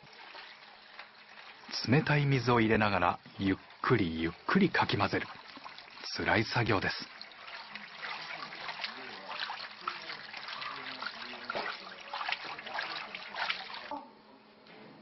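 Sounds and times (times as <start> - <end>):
water sloshing and trickling: 0.0 - 14.0.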